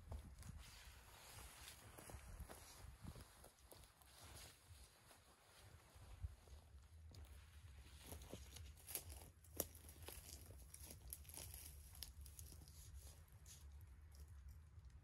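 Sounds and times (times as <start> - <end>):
fabric and rope rustling: 0.0 - 14.8.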